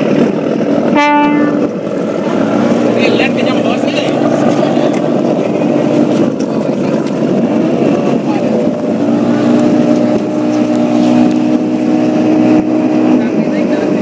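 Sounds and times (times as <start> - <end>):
boat engine droning: 0.0 - 14.0
water noise: 0.0 - 14.0.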